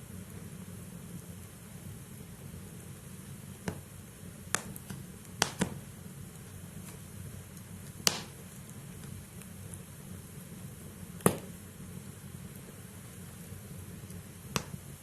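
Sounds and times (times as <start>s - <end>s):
low rumble of flames: 0.0s - 15.0s
burning logs crackling pops: 0.1s - 15.0s.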